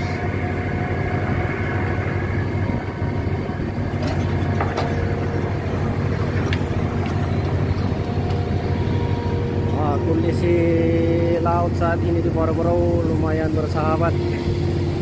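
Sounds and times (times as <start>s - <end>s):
marine diesel machinery drone: 0.0s - 15.0s.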